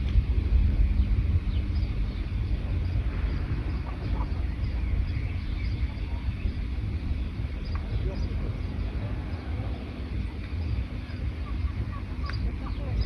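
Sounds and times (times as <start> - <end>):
songbirds chirping: 0.0 - 13.0
steady low rumble: 0.0 - 13.0.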